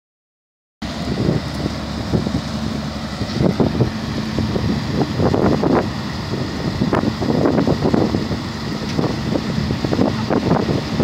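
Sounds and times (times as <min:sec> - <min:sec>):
tugboat diesel engine rumble: 0:00.8 - 0:11.0
wind buffeting microphone: 0:00.8 - 0:11.0.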